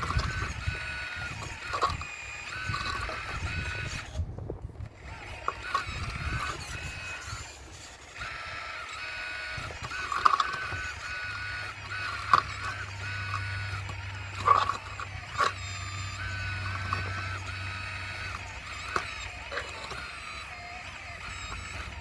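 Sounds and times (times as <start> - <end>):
toy excavator motors whining: 0.0 - 22.0.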